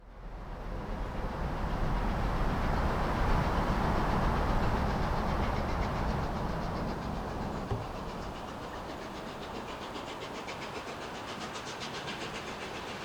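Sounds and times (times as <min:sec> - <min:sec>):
steam train rumbling: 0:00.3 - 0:13.0.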